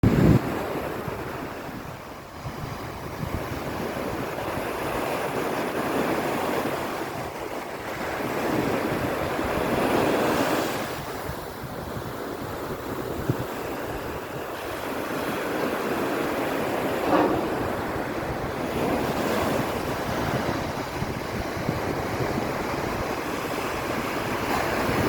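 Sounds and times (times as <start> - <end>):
sea waves breaking on beach: 0.1 - 25.0.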